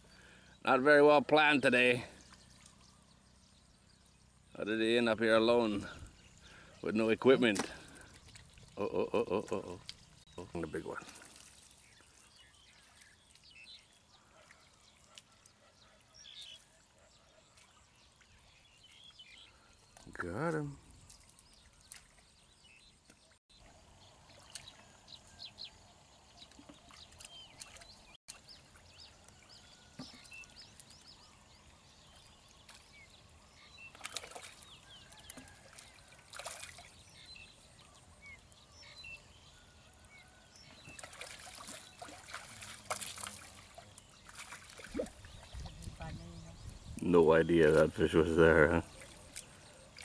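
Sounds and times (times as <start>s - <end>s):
muddy water splashing: 1.1s - 3.5s, 4.7s - 25.4s, 26.3s - 38.5s, 40.6s - 50.0s.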